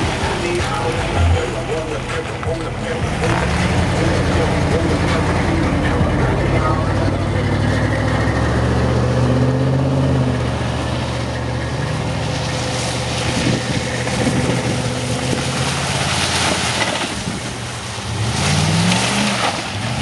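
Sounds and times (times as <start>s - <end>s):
pickup truck engine revving: 0.0s - 20.0s.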